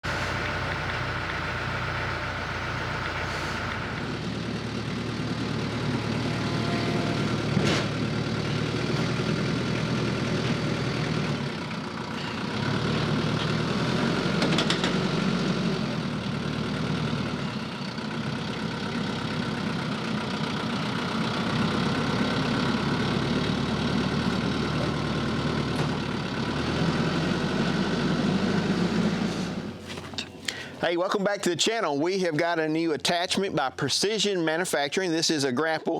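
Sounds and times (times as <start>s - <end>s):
engine running: 0.0s - 31.4s.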